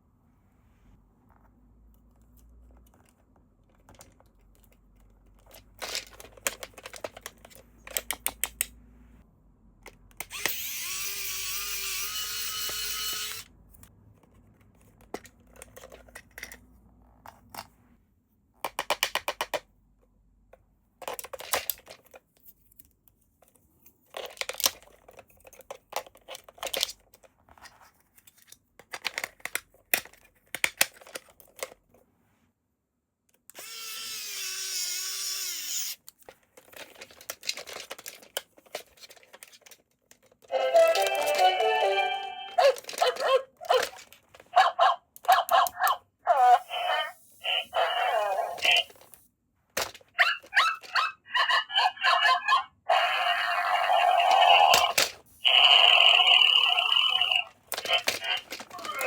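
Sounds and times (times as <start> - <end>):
toy packaging clicking and rattling: 2.7 - 8.7, 9.9 - 16.7, 18.6 - 19.7, 21.0 - 32.0, 33.4 - 53.3, 53.9 - 59.0.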